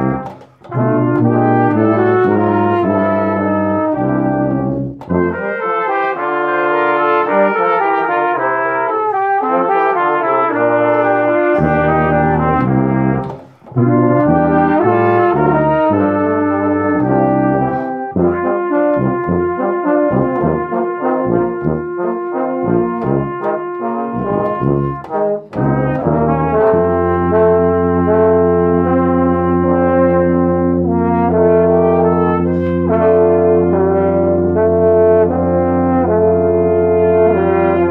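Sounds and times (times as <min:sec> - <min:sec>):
brass ensemble playing: 0:00.0 - 0:37.9.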